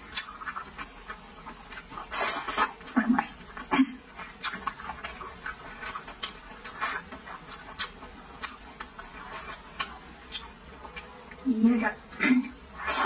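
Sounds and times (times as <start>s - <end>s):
wet chewing and lip smacks: 0.0s - 11.4s.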